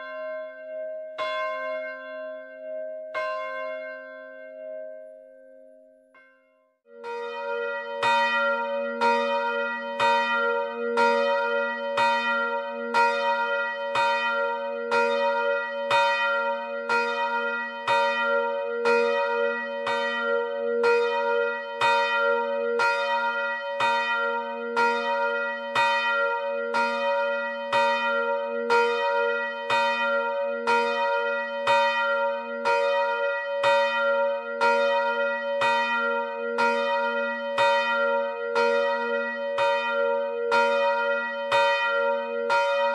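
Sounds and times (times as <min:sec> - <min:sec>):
church bell ringing: 0:00.0 - 0:42.9.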